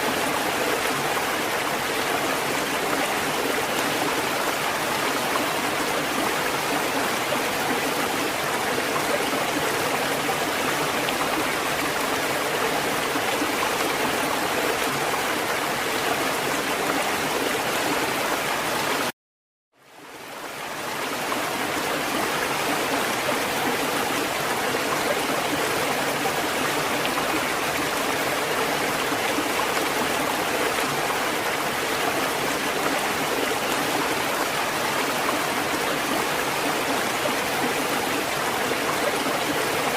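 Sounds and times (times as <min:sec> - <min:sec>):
water rushing: 0:00.0 - 0:19.1, 0:20.0 - 0:39.9.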